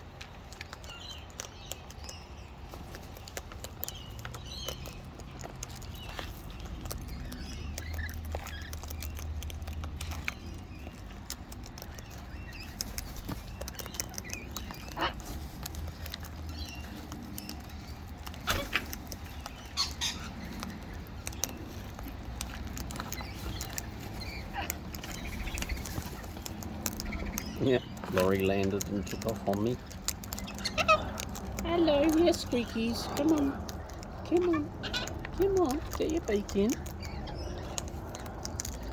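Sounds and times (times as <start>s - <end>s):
low background rumble: 0.0s - 38.9s
bird chirps: 0.5s - 38.9s.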